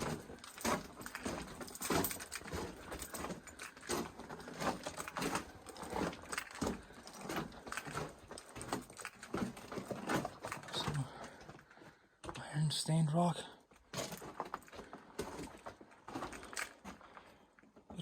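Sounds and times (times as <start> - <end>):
rattle of carried gear: 0.0 - 12.5, 13.6 - 18.0.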